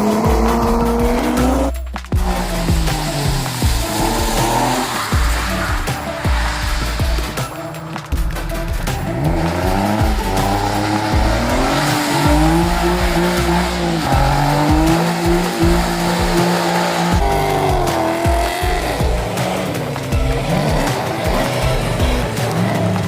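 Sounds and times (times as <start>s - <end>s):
car engine at high revs: 0.0s - 23.0s
tyres squealing: 0.0s - 23.0s.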